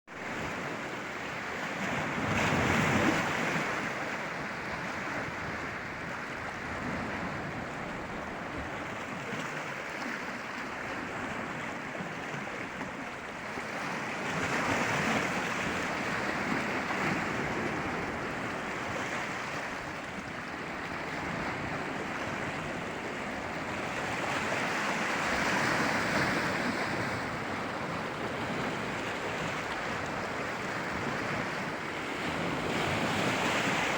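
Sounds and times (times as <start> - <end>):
sea waves breaking on shore: 0.1 - 33.9.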